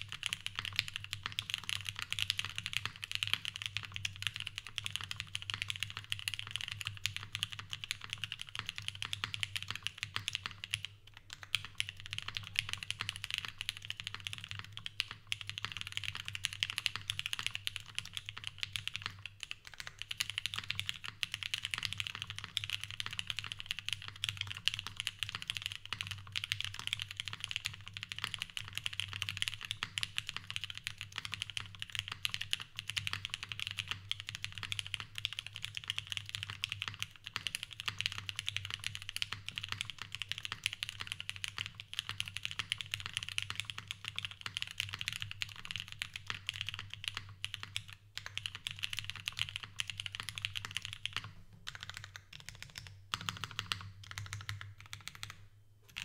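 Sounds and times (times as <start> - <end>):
mechanical keyboard typing clacks: 0.0 - 56.0.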